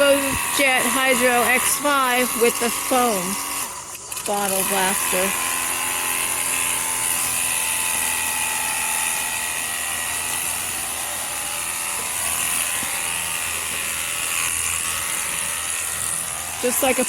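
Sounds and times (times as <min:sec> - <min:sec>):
pump motor humming: 0:00.0 - 0:17.0.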